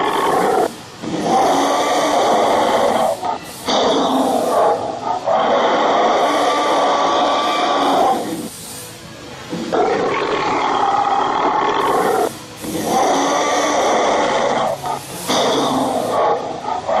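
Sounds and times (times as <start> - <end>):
dinosaur roars: 0.0 - 8.4, 9.6 - 17.0.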